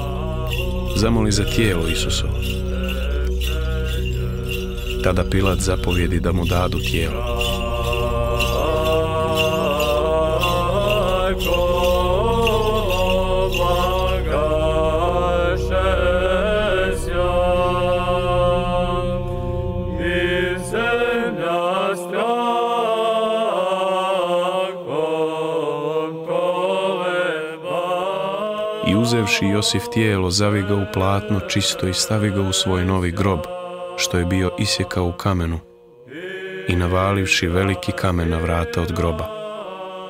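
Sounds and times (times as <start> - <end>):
low sustained vocal drone: 0.0 - 40.0
voices chanting slow melody: 0.0 - 40.0.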